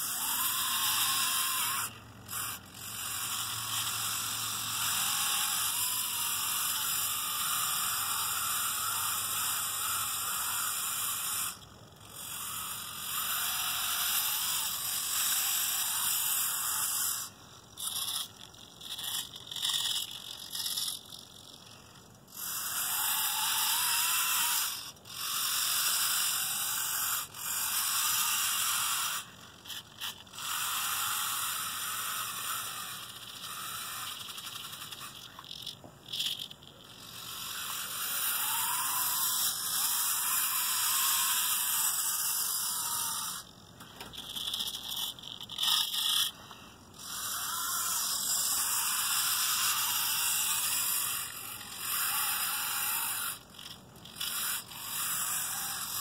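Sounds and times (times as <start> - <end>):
toy electric motor whirring: 0.0 - 56.0.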